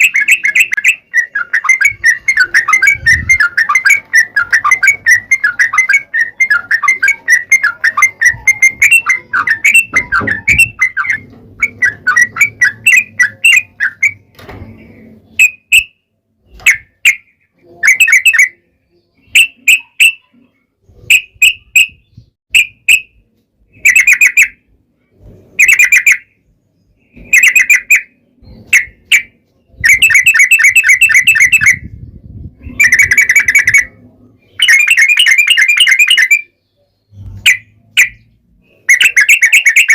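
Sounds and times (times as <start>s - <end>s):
bulbul chattering song: 0.0s - 24.8s, 25.5s - 39.9s.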